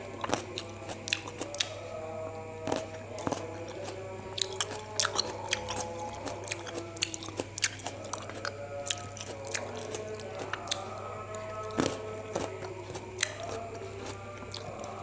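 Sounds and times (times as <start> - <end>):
chewing grapes with crunches: 0.0 - 15.0.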